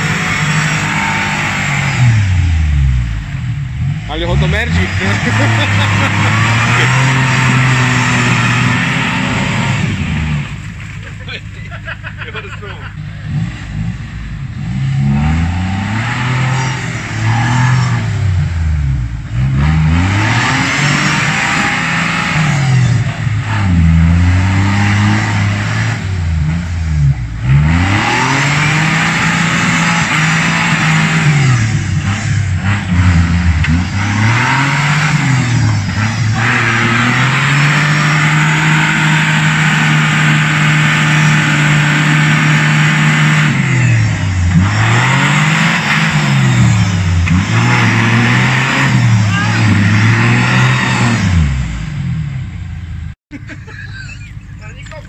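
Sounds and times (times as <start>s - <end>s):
car engine revving hard: 0.0s - 52.8s.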